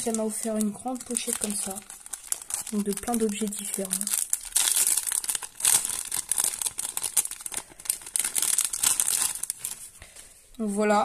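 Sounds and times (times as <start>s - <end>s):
plastic pouch crinkling: 0.0s - 10.2s.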